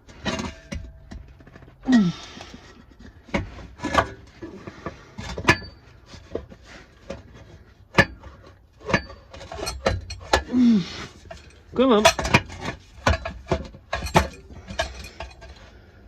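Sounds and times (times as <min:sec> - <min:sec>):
metal exhaust pipe knocks and scraping: 0:00.0 - 0:01.8, 0:02.4 - 0:10.5, 0:11.2 - 0:15.8.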